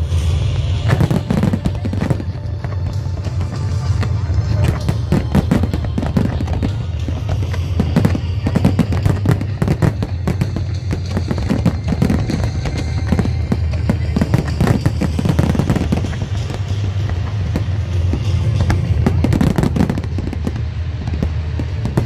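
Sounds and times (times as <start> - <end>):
fireworks bangs and crackling: 0.0 - 22.0
music playing: 0.0 - 22.0.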